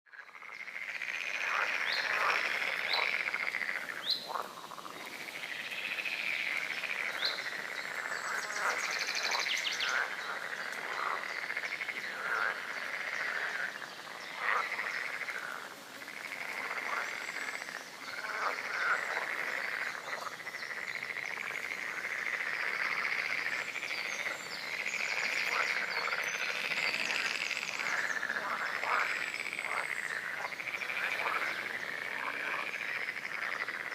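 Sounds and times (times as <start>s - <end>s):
frogs croaking: 0.1s - 33.9s.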